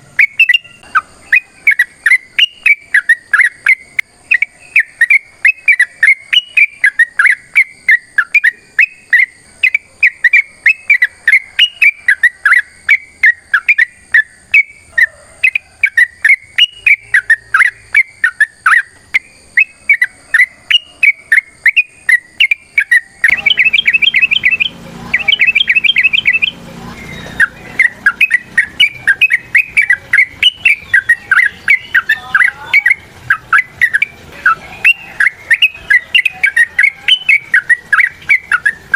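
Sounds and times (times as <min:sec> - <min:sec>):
bird chirping: 0:00.0 - 0:38.9
bird trills: 0:00.0 - 0:38.9.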